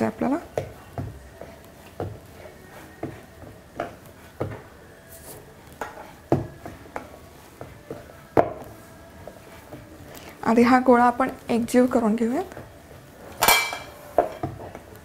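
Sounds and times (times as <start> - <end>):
hands kneading dough: 0.0 - 15.0.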